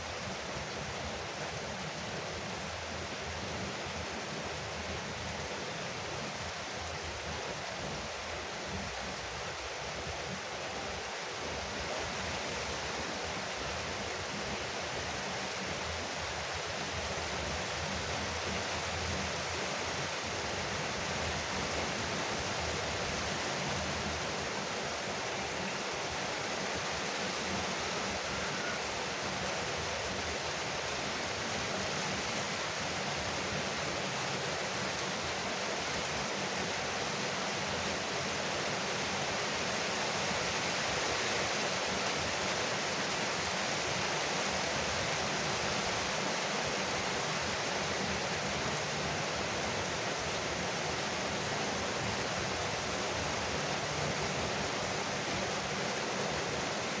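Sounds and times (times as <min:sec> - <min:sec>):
rain on a porch roof: 0:00.0 - 0:57.0.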